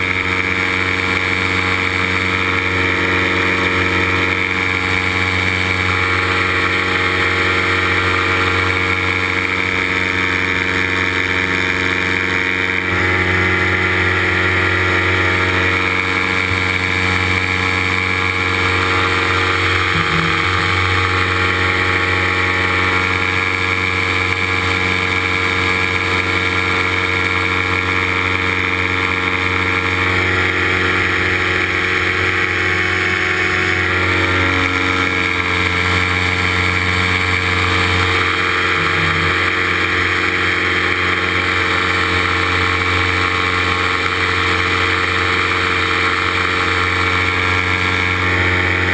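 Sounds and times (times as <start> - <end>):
paramotor engine and propeller: 0.0 - 48.9.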